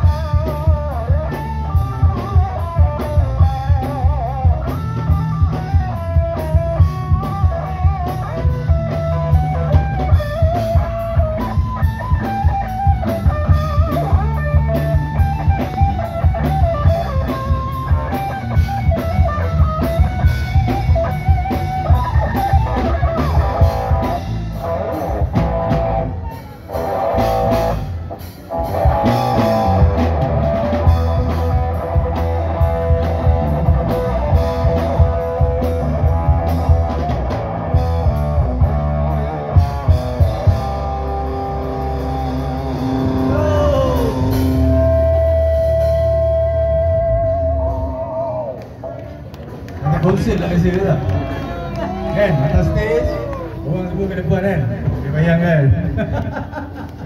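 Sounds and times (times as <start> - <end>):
drum kit beat: 0.0 - 48.8
electric guitar: 0.0 - 57.0.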